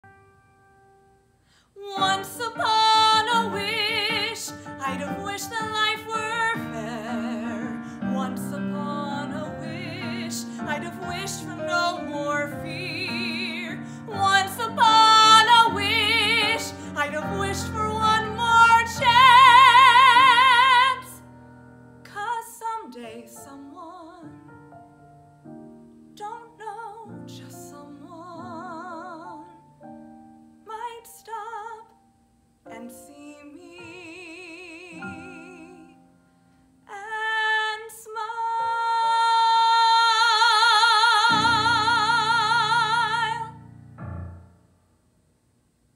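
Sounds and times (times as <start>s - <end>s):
piano accompaniment: 0.0s - 36.8s, 38.5s - 44.9s
woman singing operatic ballad: 1.8s - 21.3s, 22.1s - 24.7s, 26.1s - 29.8s, 30.6s - 32.0s, 32.7s - 36.1s, 36.8s - 43.7s.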